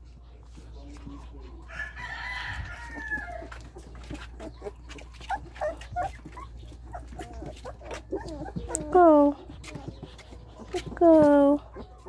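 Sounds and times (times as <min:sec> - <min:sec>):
puppies whimpering: 0:00.4 - 0:12.0.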